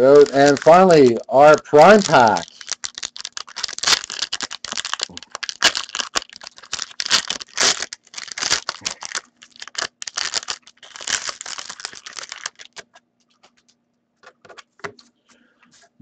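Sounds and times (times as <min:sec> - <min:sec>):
foil wrapper tearing and crinkling: 0:00.0 - 0:13.7.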